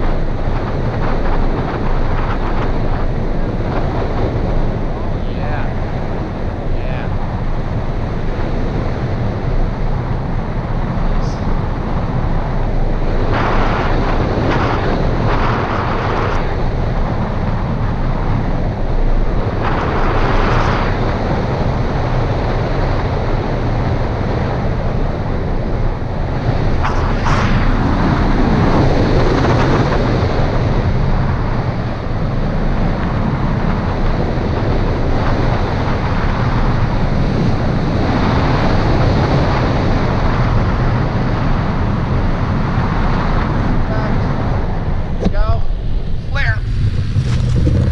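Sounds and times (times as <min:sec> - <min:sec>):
wind noise on microphone: 0:00.0 - 0:47.9.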